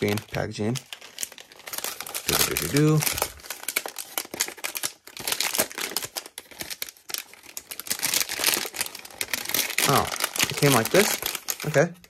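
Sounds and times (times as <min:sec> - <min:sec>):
paper wrapping crinkling: 0:00.0 - 0:12.0.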